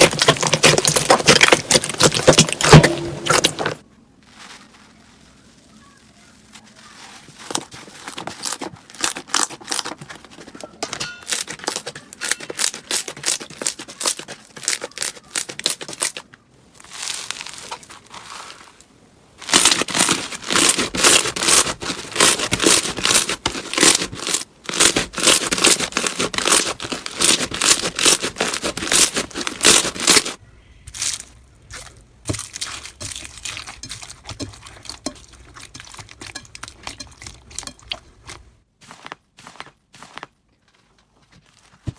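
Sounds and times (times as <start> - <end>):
crunchy slime crackling: 0.0 - 10.5, 11.3 - 18.8, 19.4 - 41.9.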